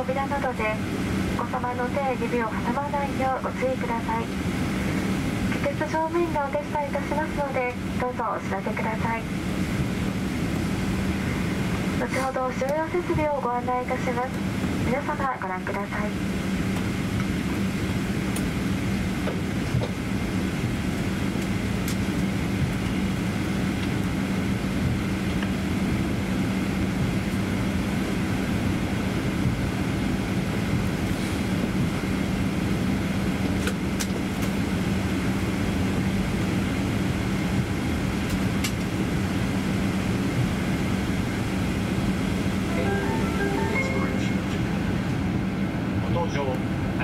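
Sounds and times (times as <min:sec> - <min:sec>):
airliner cabin drone: 0:00.0 - 0:47.0.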